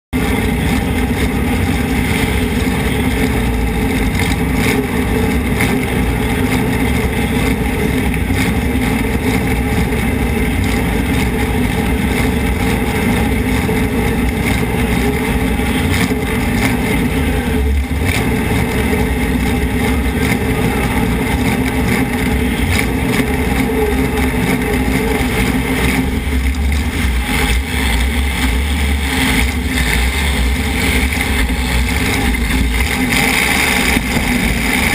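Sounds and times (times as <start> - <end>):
car engine running hard: 0.0 - 34.9.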